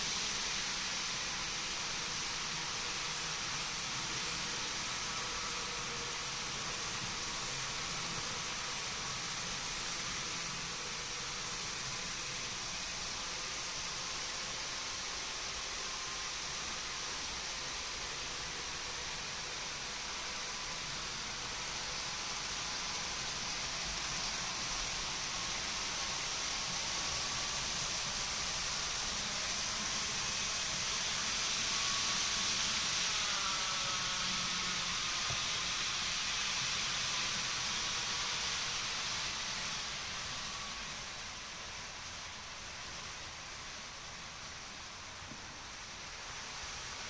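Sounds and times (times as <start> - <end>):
model train running: 0.0 - 47.0.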